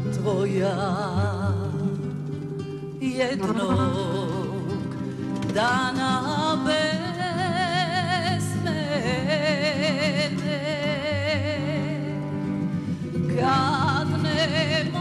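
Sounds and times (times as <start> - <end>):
guitar and bass accompaniment: 0.0 - 15.0
woman singing with vibrato: 0.0 - 15.0.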